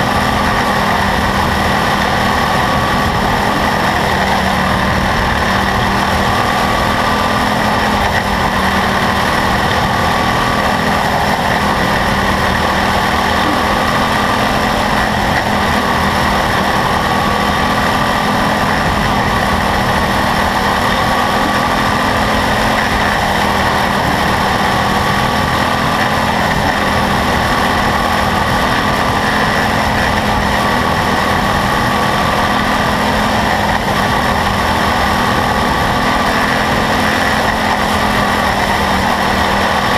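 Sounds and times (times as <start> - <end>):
small race car engine running: 0.0 - 39.9.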